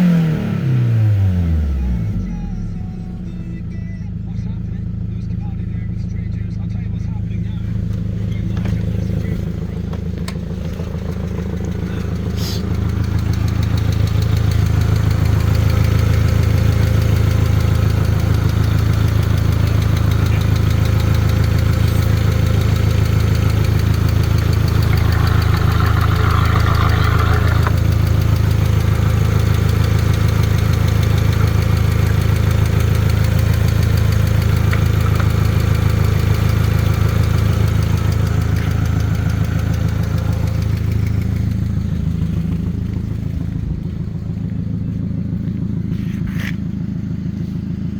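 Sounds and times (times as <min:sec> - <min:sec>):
petrol engine idling: 0:02.8 - 0:47.9.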